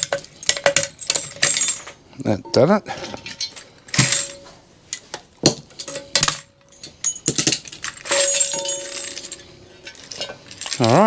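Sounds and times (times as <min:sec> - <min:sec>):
metal parts clinking: 0:00.0 - 0:02.0, 0:02.6 - 0:11.0.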